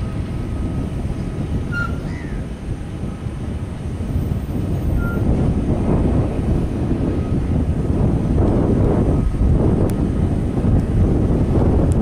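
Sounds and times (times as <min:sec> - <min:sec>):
jet engine rumble: 0:00.0 - 0:12.0
wind on microphone: 0:00.0 - 0:12.0.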